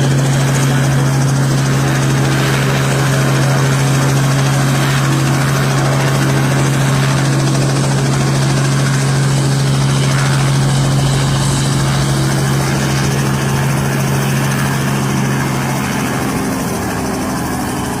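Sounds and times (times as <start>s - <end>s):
helicopter running: 0.0s - 18.0s.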